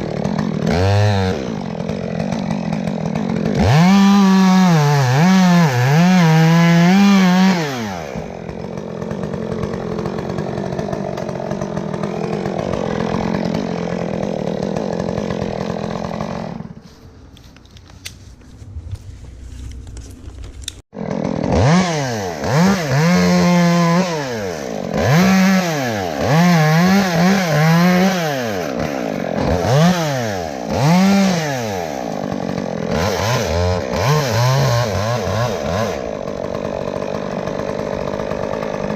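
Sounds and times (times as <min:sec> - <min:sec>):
chainsaw revving: 0:00.0 - 0:17.5, 0:18.7 - 0:38.9.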